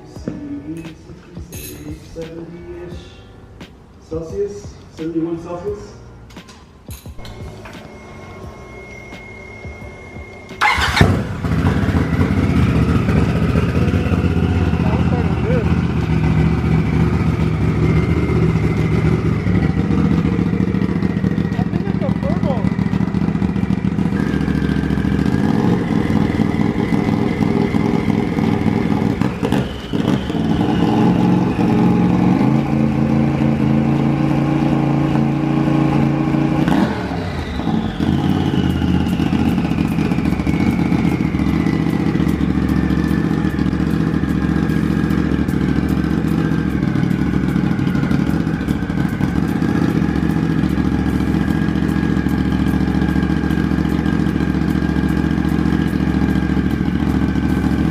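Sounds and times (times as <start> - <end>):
high whine: 4.6 - 57.9
engine idling: 7.2 - 57.9.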